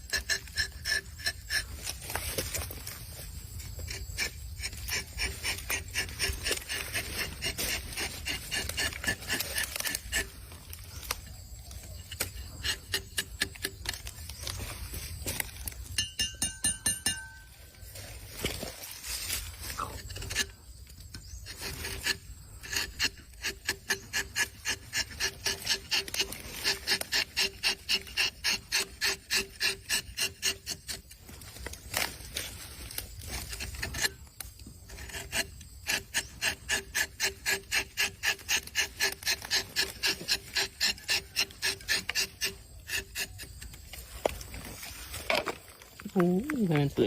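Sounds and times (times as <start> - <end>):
hand tool rasping wood: 0.0 - 47.0.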